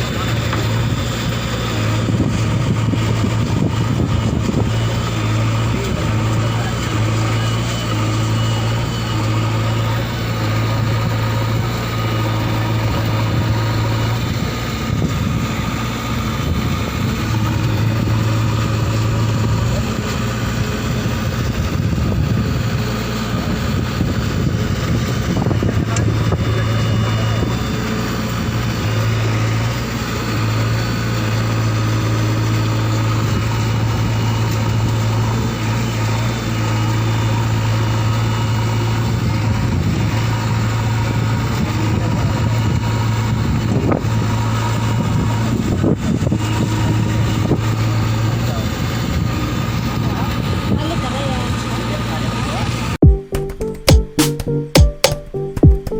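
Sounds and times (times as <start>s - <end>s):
heavy diesel engines running: 0.0s - 53.0s.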